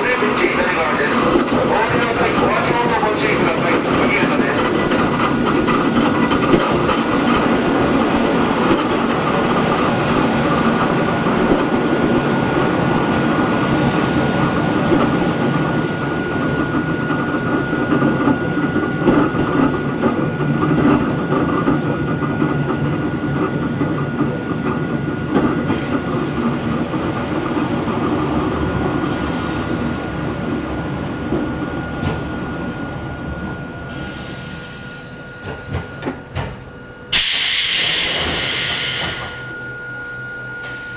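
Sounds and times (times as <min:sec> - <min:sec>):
wheel and rail clatter: 0:00.0 - 0:33.6.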